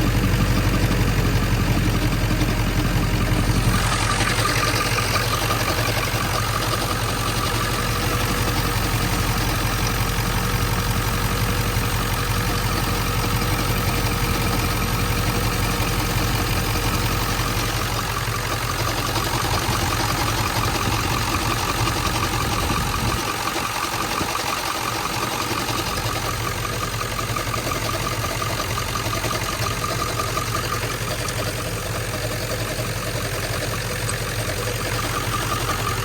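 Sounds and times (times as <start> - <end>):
diesel engine idling with knock: 0.0 - 36.0.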